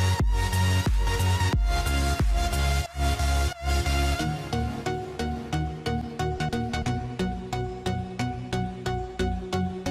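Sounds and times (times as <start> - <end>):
electronic music with pulsing bass: 0.0 - 9.9.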